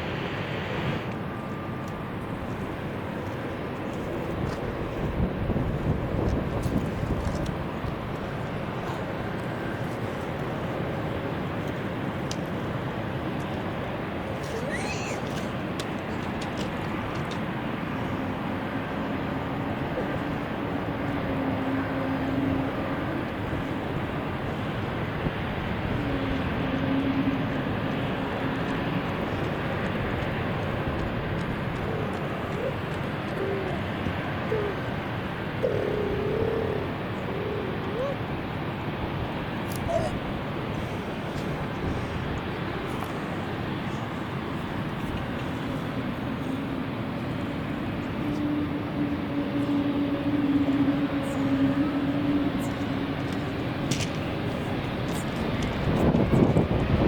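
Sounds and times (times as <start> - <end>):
airliner engine rushing: 0.0 - 57.0
wind buffeting microphone: 2.1 - 57.0.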